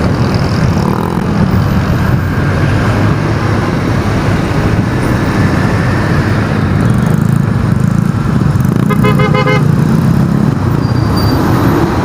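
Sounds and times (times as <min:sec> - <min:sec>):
vehicle and road noise: 0:00.0 - 0:12.0.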